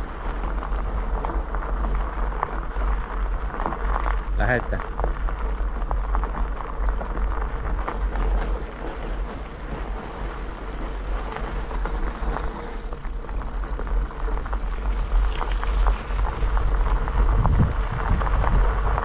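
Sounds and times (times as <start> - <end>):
bicycle tyres crunching on gravel: 0.0 - 19.0
low microphone rumble: 0.0 - 19.0.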